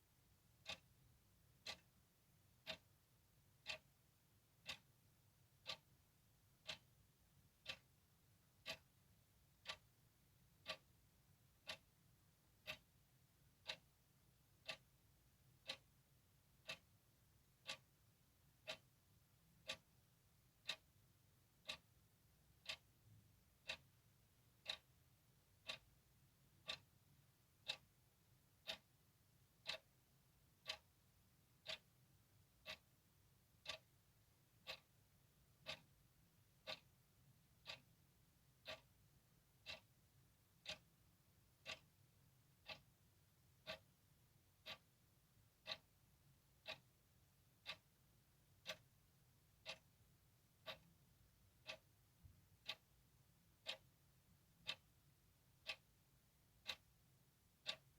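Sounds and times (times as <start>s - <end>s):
clock ticking: 0.5s - 57.9s.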